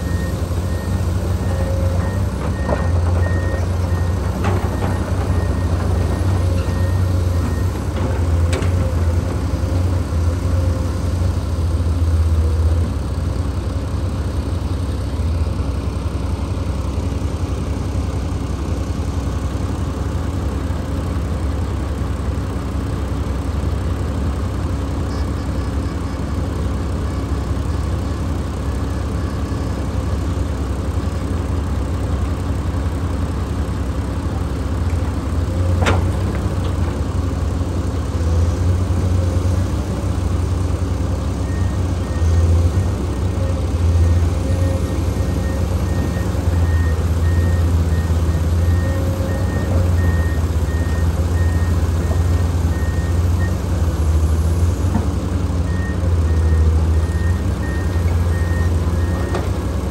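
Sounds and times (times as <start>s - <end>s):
heavy diesel engines rumbling: 0.0s - 59.9s.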